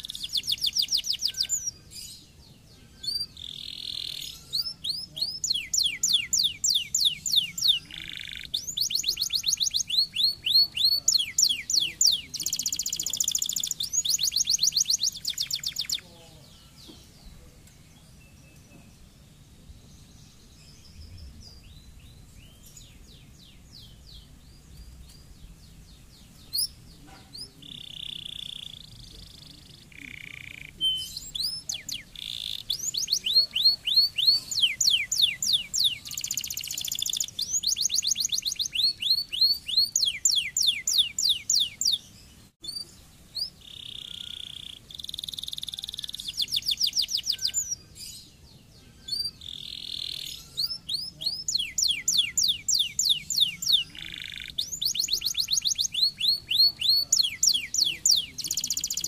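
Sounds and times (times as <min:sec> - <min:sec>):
canary singing: 0:00.0 - 0:19.4, 0:20.6 - 0:59.0.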